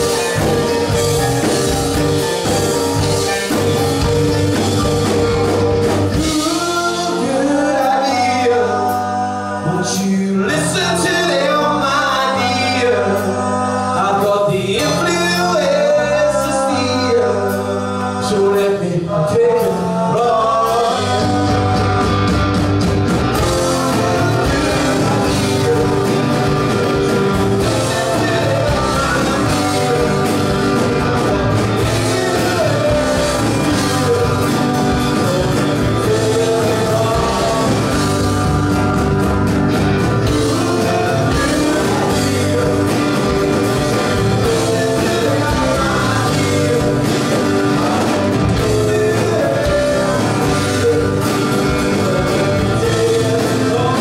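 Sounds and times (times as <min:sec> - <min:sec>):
drums and cymbals: 0:00.0 - 0:17.9, 0:19.3 - 0:54.0
live rock band playing: 0:00.0 - 0:54.0
man singing: 0:06.0 - 0:54.0.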